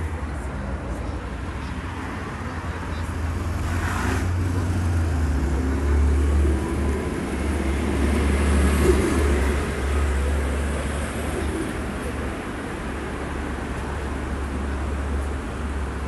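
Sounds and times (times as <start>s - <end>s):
traffic rumble: 0.0s - 16.0s
vehicles passing: 0.0s - 16.0s.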